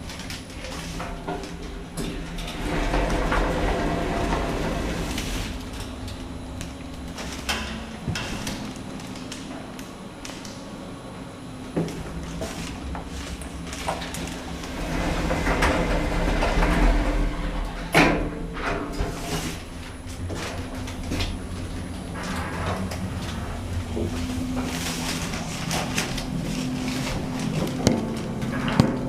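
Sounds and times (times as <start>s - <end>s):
lift humming: 0.0s - 29.0s.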